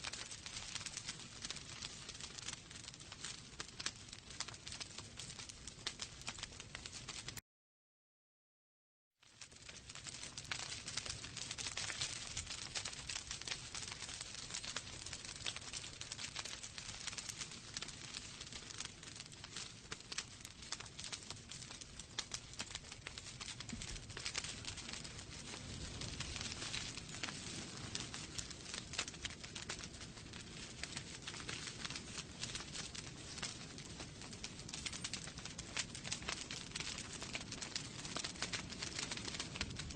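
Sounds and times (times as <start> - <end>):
wood fire crackling: 0.0 - 7.4, 9.2 - 39.9.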